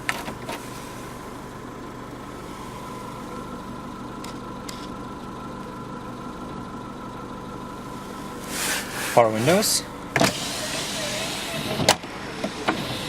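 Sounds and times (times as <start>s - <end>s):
car engine idling: 0.0s - 13.0s
faint steady whine: 0.0s - 13.0s.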